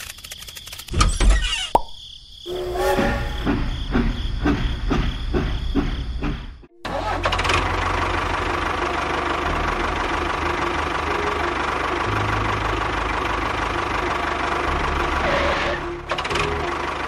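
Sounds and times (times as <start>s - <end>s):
tractor engine chugging: 3.2s - 17.0s.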